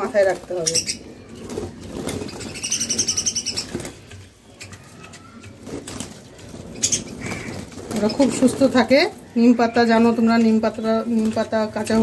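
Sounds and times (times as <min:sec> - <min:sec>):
birds flapping wings: 0:00.0 - 0:12.0.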